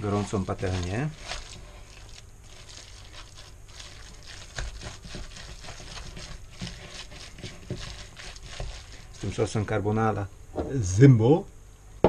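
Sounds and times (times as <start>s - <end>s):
hands squelching wet mixture: 0.0s - 9.8s
low steady hum: 0.0s - 12.0s.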